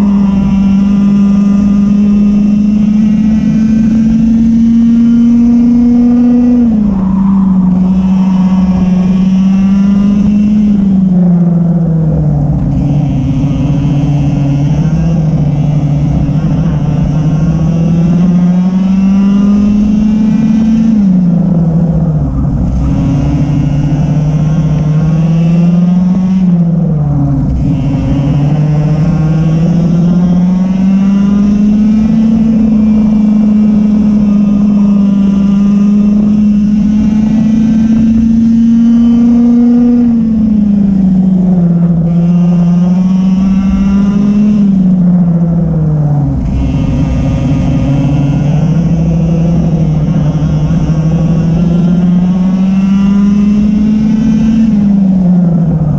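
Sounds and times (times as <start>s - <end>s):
kart engine at full throttle: 0.0s - 55.9s.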